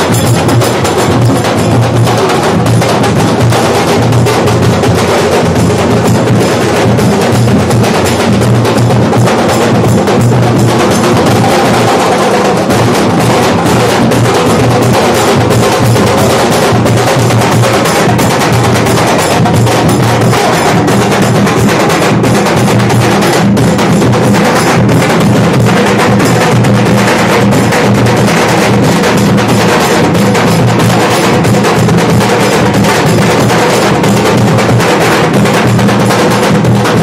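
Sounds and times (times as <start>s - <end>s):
dhol drums beating fast rhythm: 0.0s - 37.0s.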